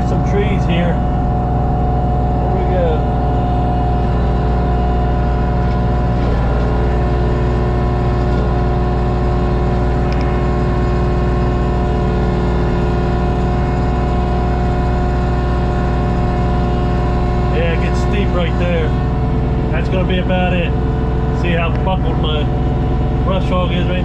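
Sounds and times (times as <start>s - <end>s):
steady mechanical whine: 0.0s - 24.0s
tractor diesel engine running: 0.0s - 24.0s.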